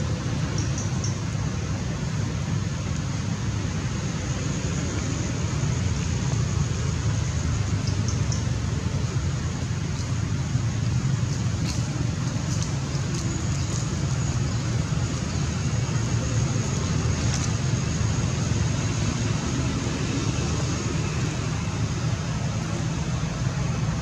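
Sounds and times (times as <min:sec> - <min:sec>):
continuous low rumble: 0:00.0 - 0:24.0
steady high-pitched hiss: 0:00.0 - 0:24.0.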